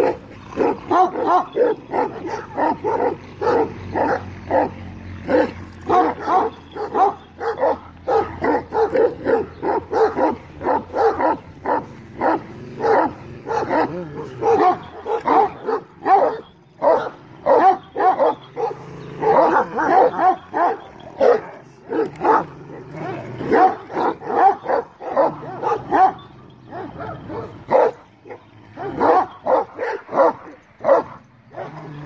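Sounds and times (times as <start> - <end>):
dogs barking: 0.0 - 32.0.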